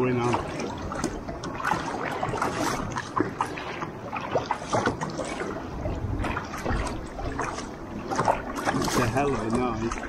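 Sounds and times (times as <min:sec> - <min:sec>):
water lapping against kayak hull: 0:00.0 - 0:10.0.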